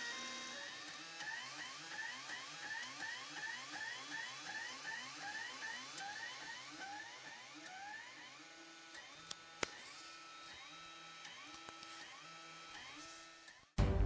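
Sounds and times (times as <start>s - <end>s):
stepper motors whining: 0.0s - 13.7s.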